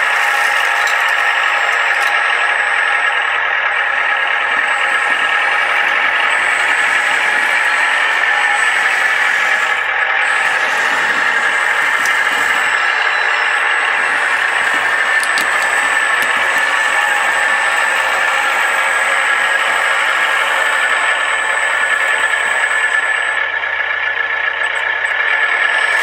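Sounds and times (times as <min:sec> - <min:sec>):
thin high whine: 0:00.0 - 0:23.5
toy track loader running: 0:00.0 - 0:26.0.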